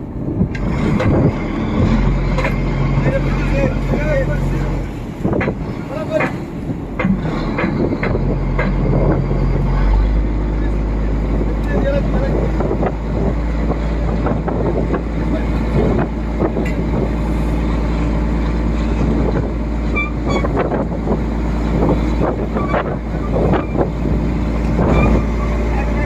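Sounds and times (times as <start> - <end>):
boat diesel engine running: 0.0 - 26.0
water churning: 0.0 - 26.0
wind buffeting microphone: 0.0 - 26.0.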